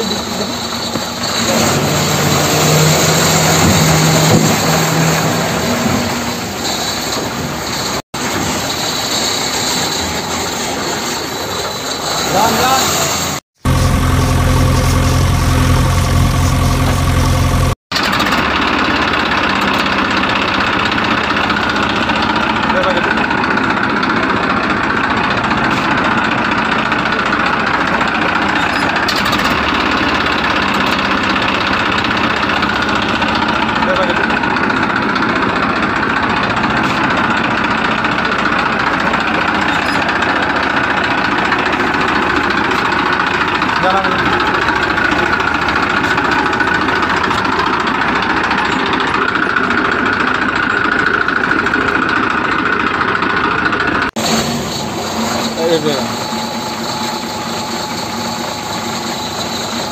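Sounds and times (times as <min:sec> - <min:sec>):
engine idling: 0:00.0 - 0:59.9
rough engine sound: 0:00.0 - 0:59.9.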